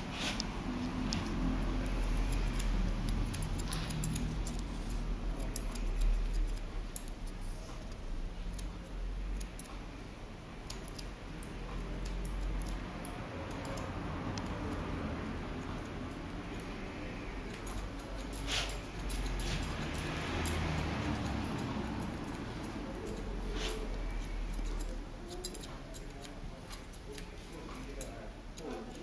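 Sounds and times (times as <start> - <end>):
scissors snipping hair: 0.2 - 9.9, 10.6 - 29.0.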